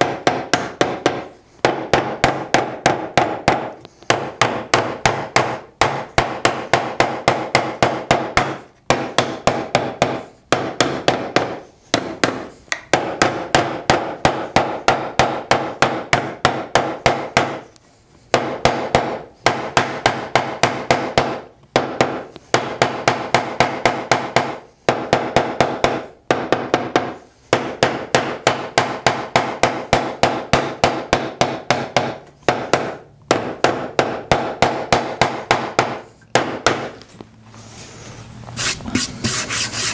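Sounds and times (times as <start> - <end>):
mallet tapping wood inlay: 0.0 - 17.7, 18.3 - 37.0.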